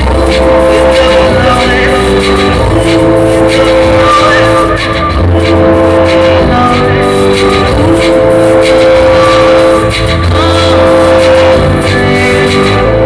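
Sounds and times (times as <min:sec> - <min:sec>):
regular drum beat: 0:00.0 - 0:12.8.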